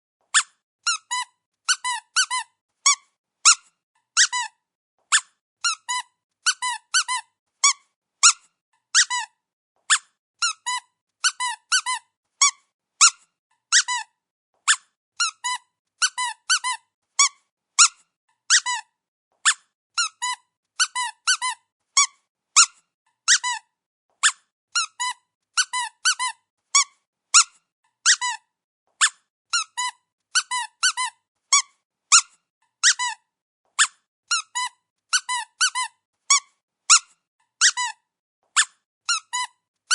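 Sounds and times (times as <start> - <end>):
dog toy squeaking: 0.3 - 39.9.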